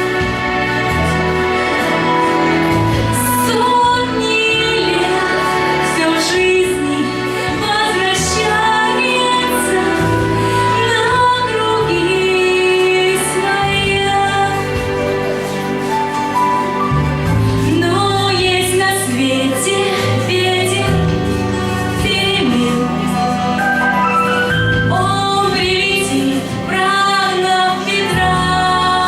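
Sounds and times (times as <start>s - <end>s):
instrumental backing track: 0.0s - 29.0s
woman singing slow song: 2.8s - 15.8s, 17.5s - 23.8s, 24.8s - 29.0s.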